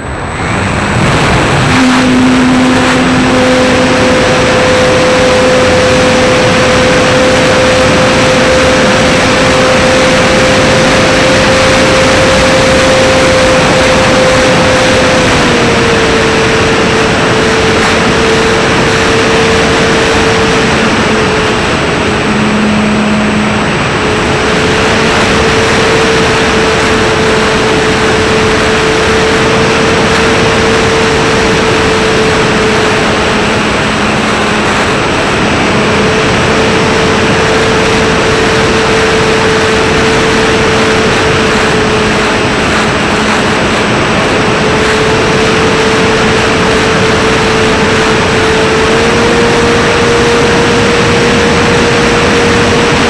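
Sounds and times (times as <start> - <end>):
wind rush on microphone: 0.0 - 53.0.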